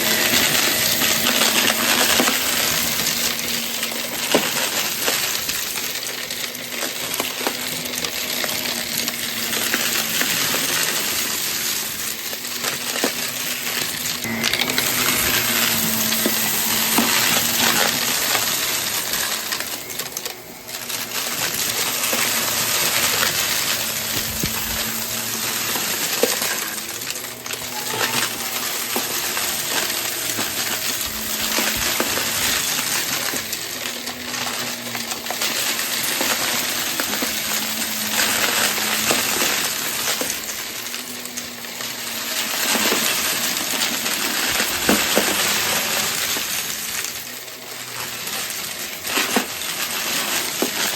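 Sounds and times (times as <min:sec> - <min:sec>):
debris clinking and rattling: 0:00.0 - 0:50.9
vacuum cleaner running: 0:00.0 - 0:50.9.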